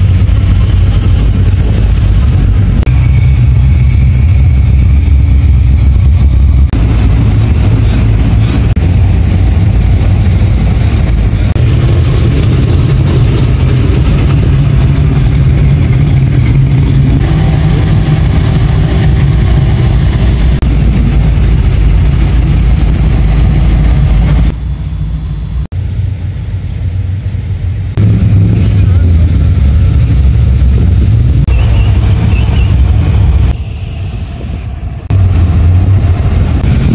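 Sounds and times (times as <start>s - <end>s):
car engines rumbling: 0.0s - 36.9s.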